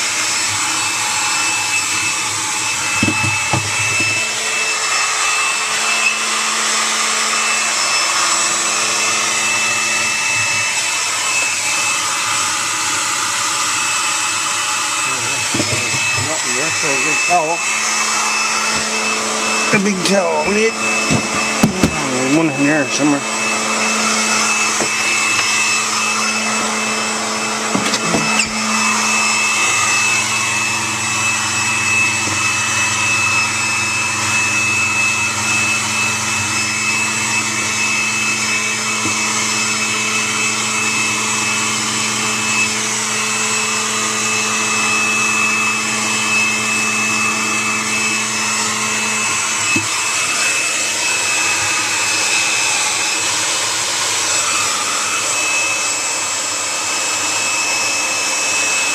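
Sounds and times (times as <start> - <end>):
hair dryer running: 0.0 - 58.9.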